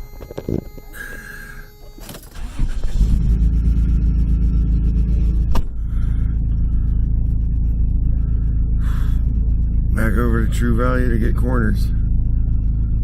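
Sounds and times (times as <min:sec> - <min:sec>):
car engine starting and running: 0:00.0 - 0:13.0.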